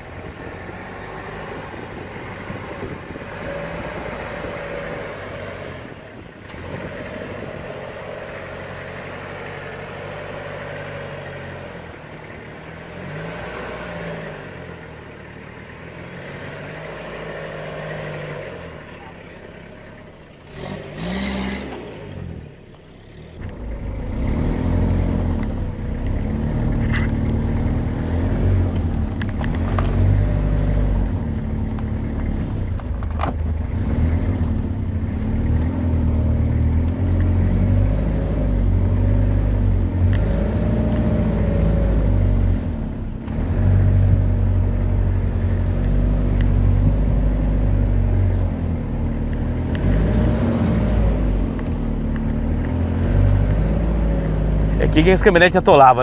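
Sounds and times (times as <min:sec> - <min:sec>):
diesel truck engine pulling slowly: 0:00.0 - 0:56.0.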